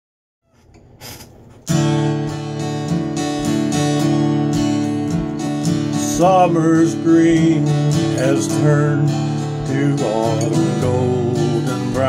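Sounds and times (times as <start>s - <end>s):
acoustic guitar strumming: 0.5s - 12.0s.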